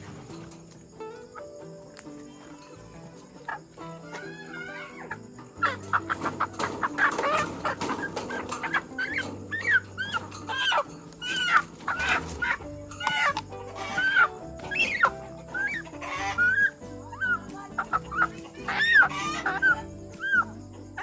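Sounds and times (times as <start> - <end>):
background music: 0.0 - 21.0
chickens clucking: 0.0 - 21.0.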